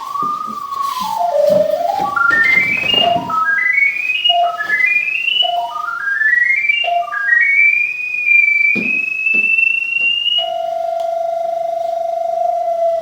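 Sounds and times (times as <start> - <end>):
electronic locator tones: 0.0 - 13.0.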